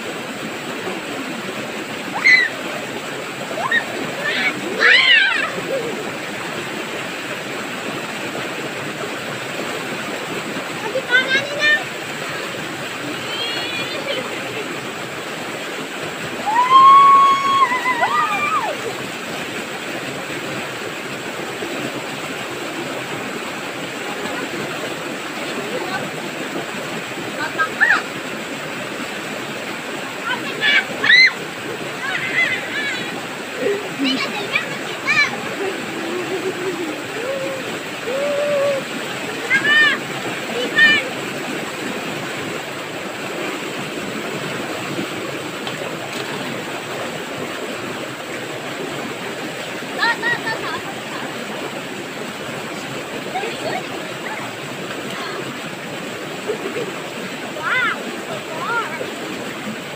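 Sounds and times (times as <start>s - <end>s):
river cascade rushing: 0.0s - 59.9s.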